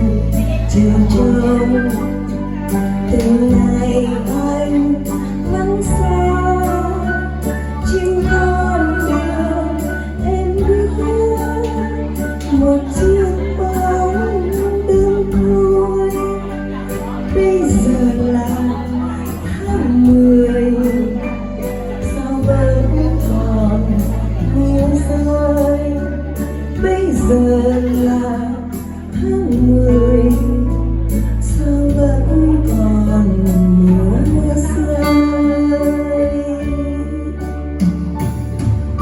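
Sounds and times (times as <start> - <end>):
instrumental ballad backing music: 0.0 - 39.0.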